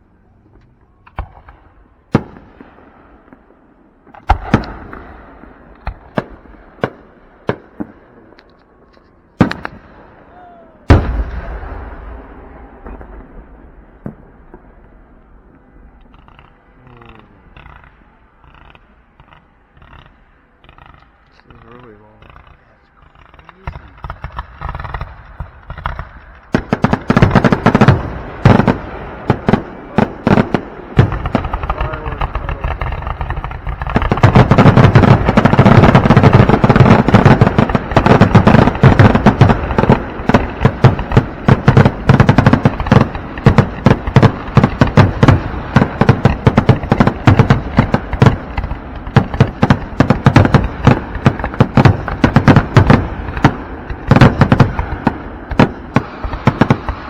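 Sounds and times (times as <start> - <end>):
fireworks bangs and crackles: 1.0 - 57.0.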